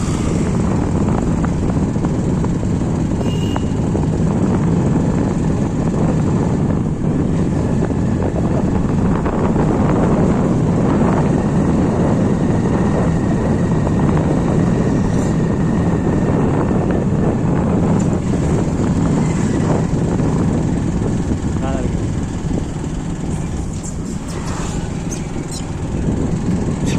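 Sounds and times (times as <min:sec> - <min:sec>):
vehicle engine and road noise: 0:00.0 - 0:26.9.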